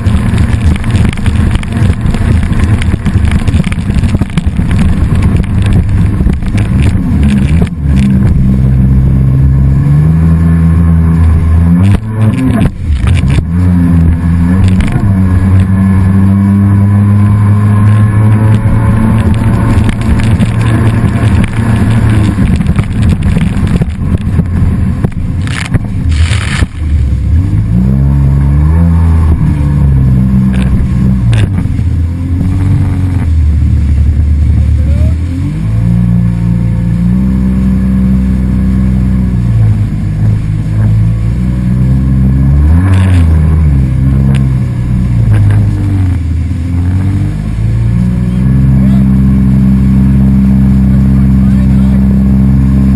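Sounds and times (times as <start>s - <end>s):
motor engine revving: 0.0s - 52.9s
rough rushing noise: 0.0s - 52.9s.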